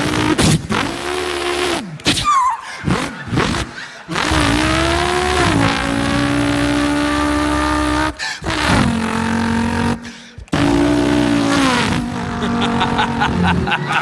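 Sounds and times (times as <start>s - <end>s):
man imitating a car engine: 0.0s - 14.0s.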